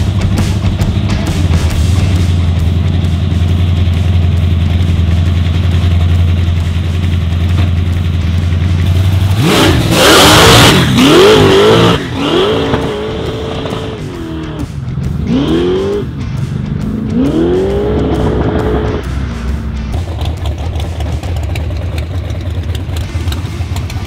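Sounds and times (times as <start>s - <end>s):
drag car engine accelerating: 0.0s - 24.0s.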